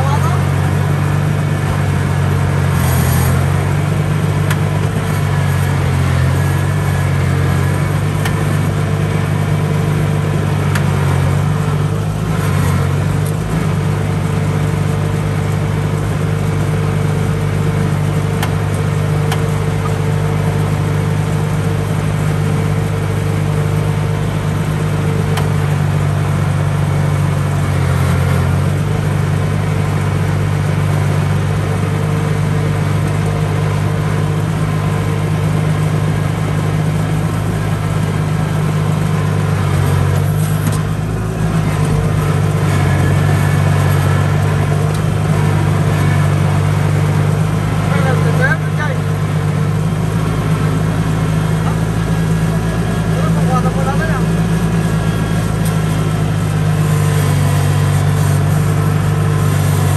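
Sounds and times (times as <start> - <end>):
harvester engine drone: 0.0 - 59.9.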